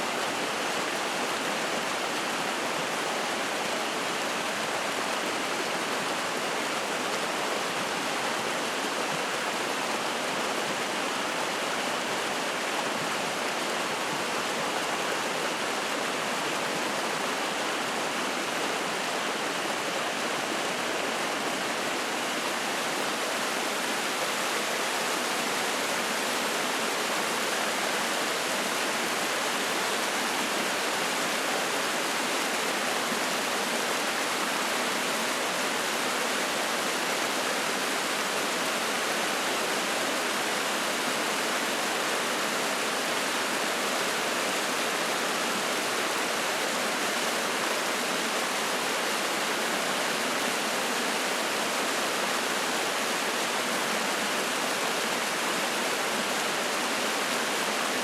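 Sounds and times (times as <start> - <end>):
stream flowing and splashing: 0.0 - 58.0.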